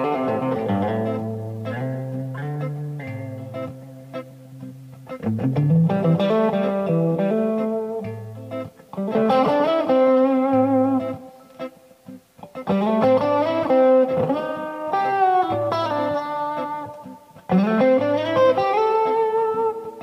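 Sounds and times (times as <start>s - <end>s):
electric guitar melody: 0.0s - 20.0s.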